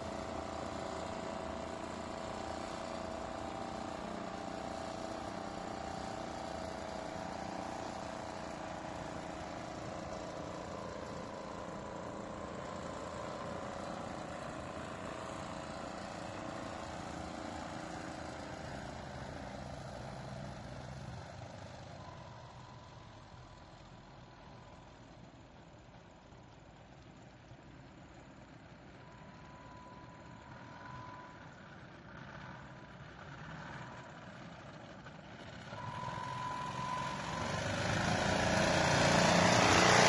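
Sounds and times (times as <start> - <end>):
outboard engine running: 0.0 - 31.3, 32.3 - 40.0.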